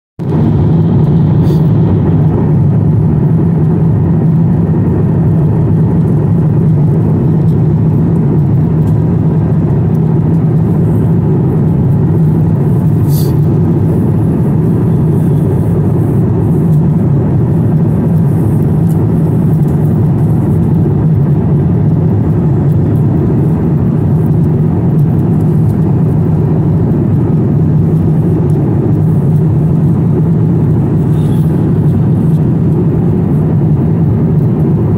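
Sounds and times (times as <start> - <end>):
airliner cabin engine drone: 0.2 - 34.9.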